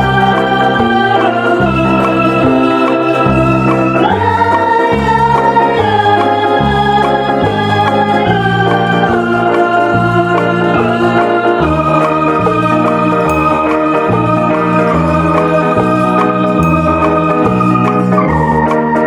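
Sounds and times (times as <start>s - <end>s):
stepping bass line: 0.0s - 18.6s
electronic organ chords: 0.0s - 19.0s.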